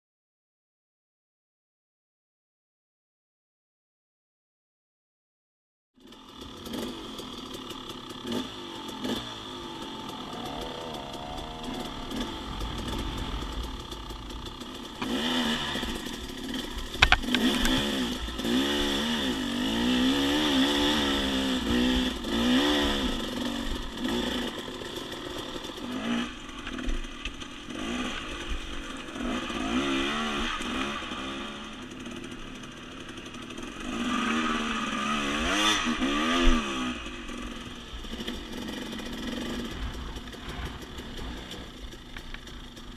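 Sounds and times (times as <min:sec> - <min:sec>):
dirt bike engine revving: 0:06.0 - 0:42.9.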